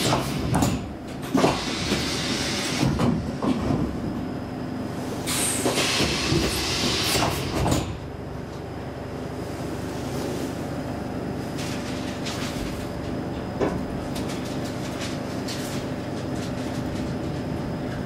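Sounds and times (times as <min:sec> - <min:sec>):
train rumble and hum: 0:00.0 - 0:18.0.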